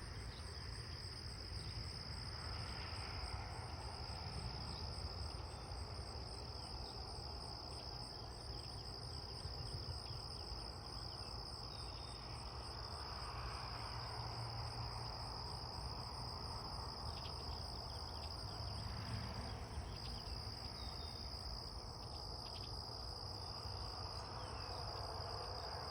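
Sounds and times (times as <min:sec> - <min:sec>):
high insect trill: 0:00.0 - 0:25.9.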